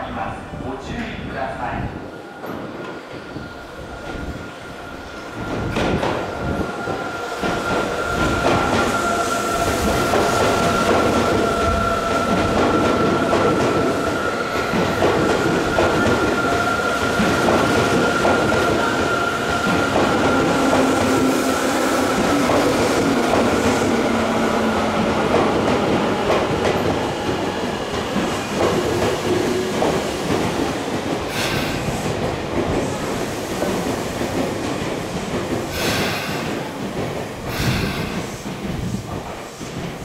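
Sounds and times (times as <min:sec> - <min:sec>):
electric train running past: 0:02.1 - 0:40.0.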